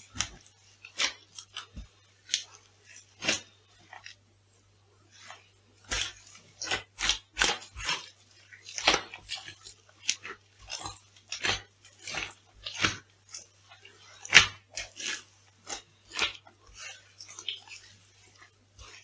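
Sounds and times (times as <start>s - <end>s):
food crunching underfoot: 0.0s - 4.2s, 5.1s - 19.0s.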